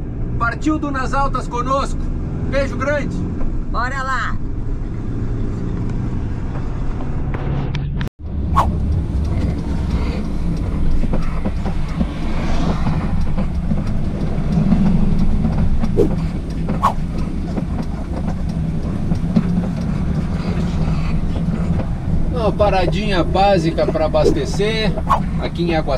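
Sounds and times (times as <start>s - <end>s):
engine and tyre rumble: 0.0s - 25.9s.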